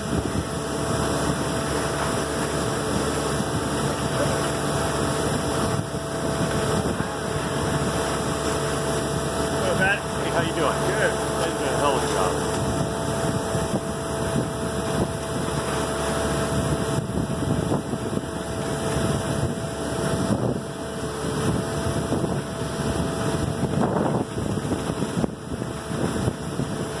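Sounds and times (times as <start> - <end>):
engine-like rumble: 0.0 - 27.0
wind noise on microphone: 0.0 - 27.0.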